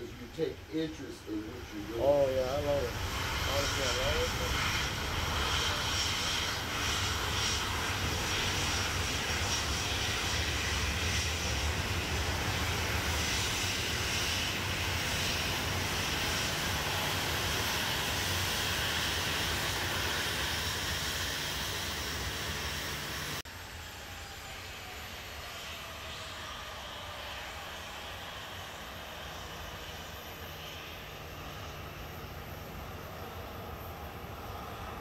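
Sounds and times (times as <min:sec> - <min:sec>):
jet engines whining: 0:00.0 - 0:35.0.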